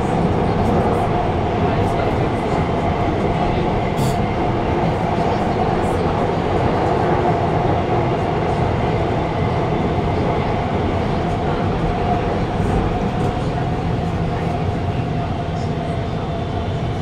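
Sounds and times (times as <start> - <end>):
metro train running rumble: 0.0 - 17.0.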